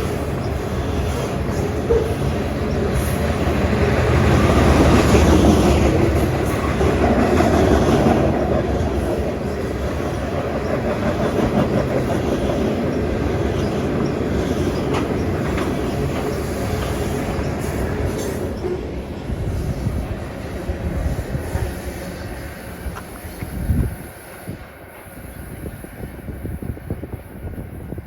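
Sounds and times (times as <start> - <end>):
train wheels clacking on rails: 0.0 - 28.0.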